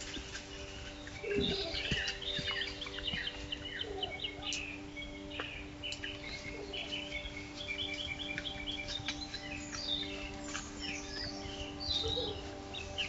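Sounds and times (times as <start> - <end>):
birds singing: 0.0 - 13.0
steady low hum: 0.0 - 13.0.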